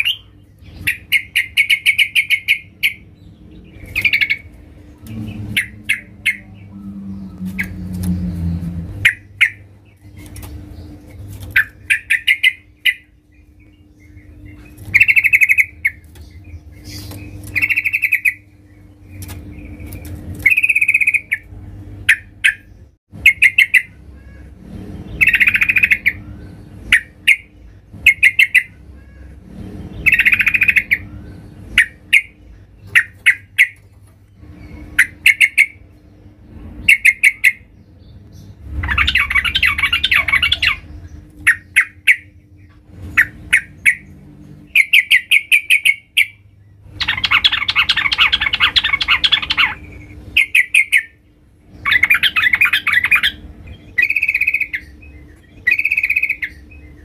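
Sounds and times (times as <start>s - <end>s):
bird chattering calls: 0.0s - 3.1s, 3.7s - 13.2s, 14.0s - 18.5s, 19.1s - 33.8s, 34.6s - 35.9s, 36.8s - 37.7s, 38.8s - 51.2s, 51.8s - 57.0s
faint low hum: 0.0s - 57.0s.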